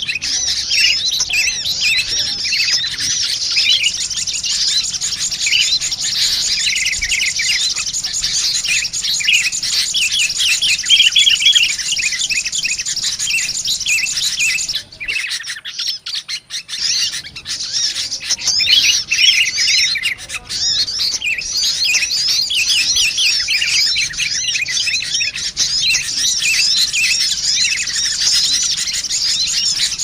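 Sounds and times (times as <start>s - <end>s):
many small birds chirping: 0.0s - 30.0s.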